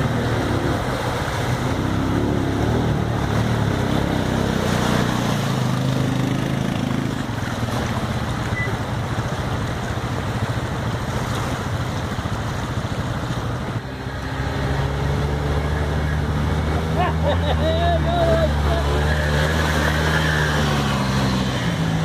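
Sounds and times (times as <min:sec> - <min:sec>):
atv engine running: 0:00.0 - 0:22.0
creek rapids rushing: 0:00.0 - 0:22.0.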